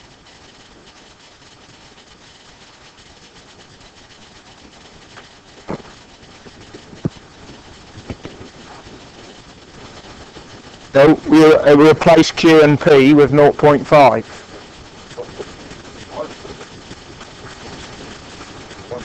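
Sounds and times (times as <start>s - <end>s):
classroom room noise hiss: 0.0s - 19.0s.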